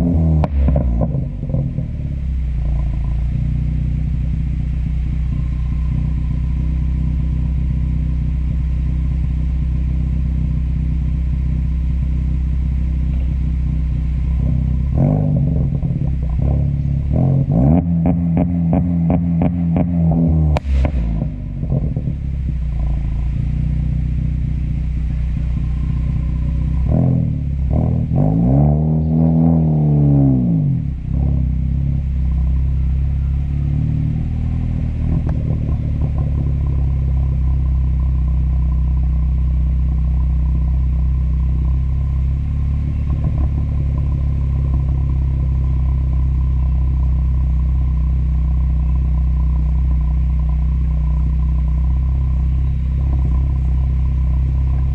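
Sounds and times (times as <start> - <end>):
car engine idling and revving: 0.0 - 54.9
sharp exhaust crackles: 0.0 - 54.9.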